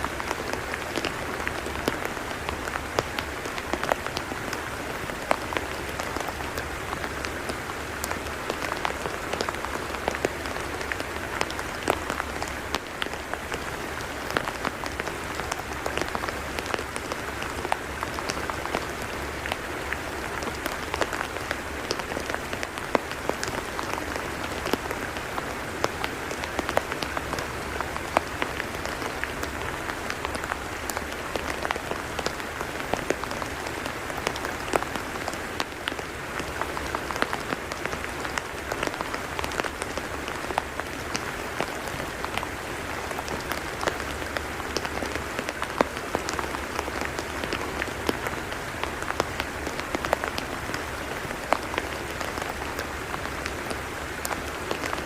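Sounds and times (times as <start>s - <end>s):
rain falling on mud: 0.0s - 55.0s.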